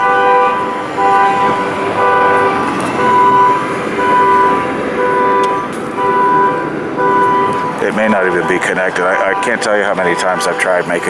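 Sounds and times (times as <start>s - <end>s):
car alarm horn tone: 0.0s - 11.0s.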